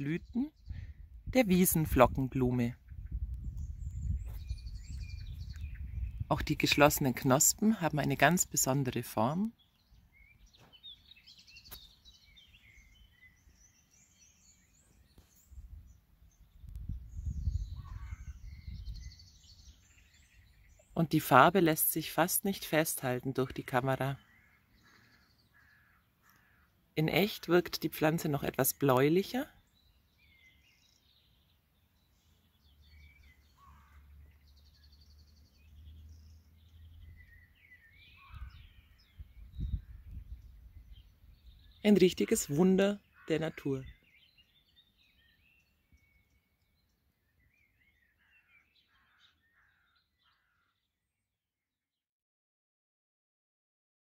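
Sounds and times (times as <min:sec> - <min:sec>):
small birds chirping: 0:00.0 - 0:51.4.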